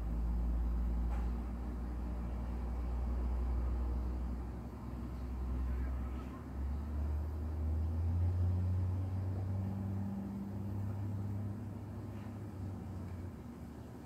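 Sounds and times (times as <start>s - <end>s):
air conditioner electrical hum: 0.0s - 14.0s.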